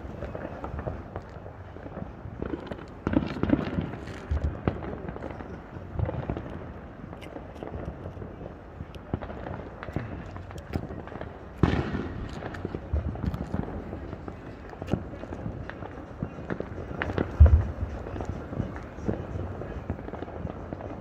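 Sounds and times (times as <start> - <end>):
fireworks popping and crackling: 0.0 - 21.0.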